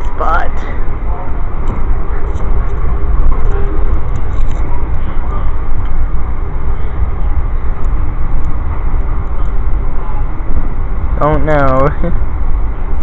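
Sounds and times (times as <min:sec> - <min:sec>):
train car rumbling on rails: 0:00.0 - 0:13.0.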